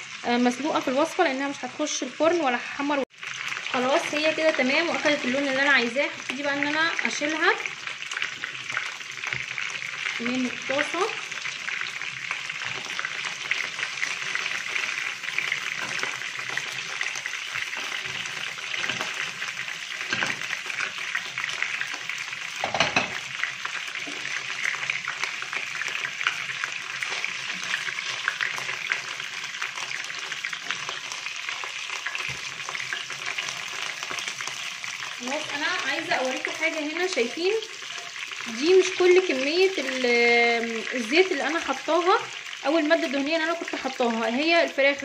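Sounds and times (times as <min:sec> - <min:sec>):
oil sizzling in frying pan: 0:00.0 - 0:45.0.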